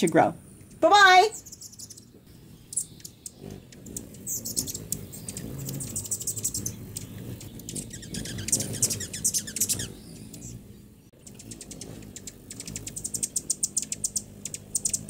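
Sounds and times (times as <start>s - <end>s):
hummingbirds chirping: 0.0s - 15.0s.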